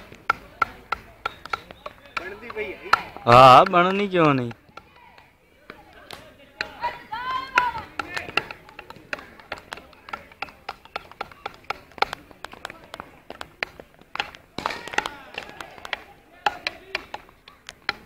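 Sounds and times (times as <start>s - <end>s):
hockey sticks clacking: 0.0s - 18.0s
voices calling out: 0.0s - 18.0s.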